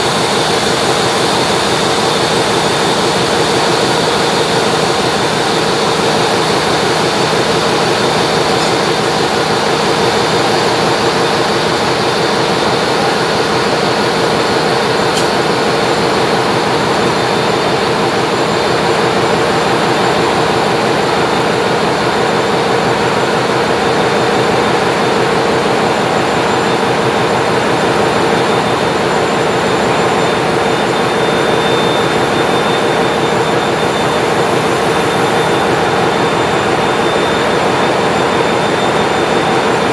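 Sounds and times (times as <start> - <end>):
engine room machinery noise: 0.0 - 39.9.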